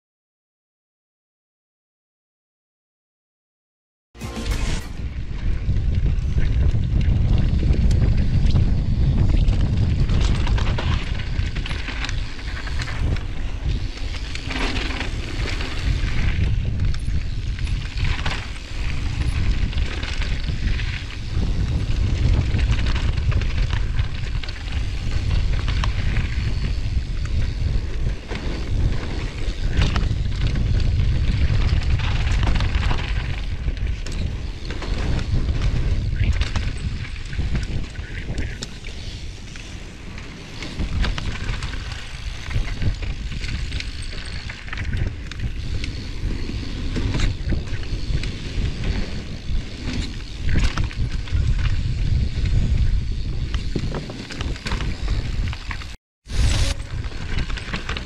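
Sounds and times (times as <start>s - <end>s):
bike tyres on dirt trail: 4.3s - 58.0s
wind buffeting microphone: 5.0s - 58.0s
bike knocking and rattling: 5.1s - 58.0s.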